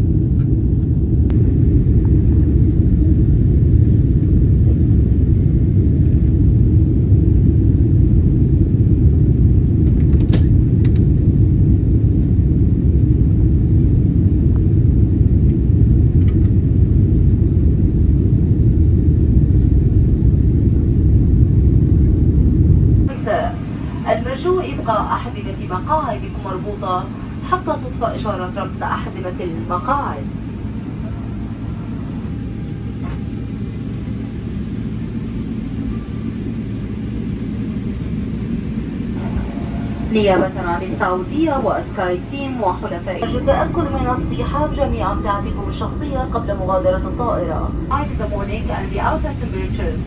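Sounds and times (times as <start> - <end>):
airliner cabin rumble: 0.0 - 50.0.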